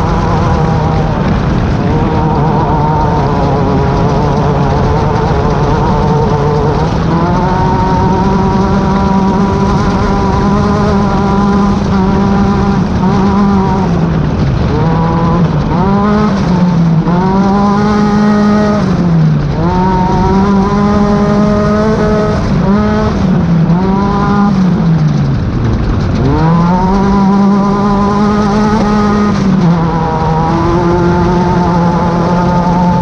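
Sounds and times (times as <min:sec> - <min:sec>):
race car engine at high revs: 0:00.0 - 0:33.0.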